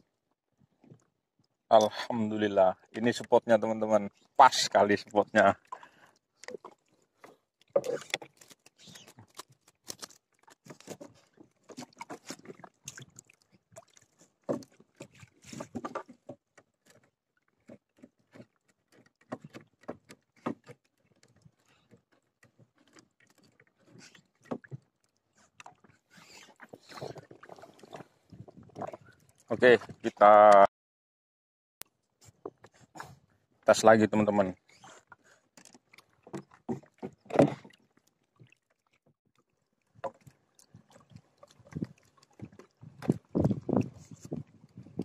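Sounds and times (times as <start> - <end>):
waves slapping against boat hull: 2.6 - 30.7, 33.8 - 39.2, 39.8 - 45.0.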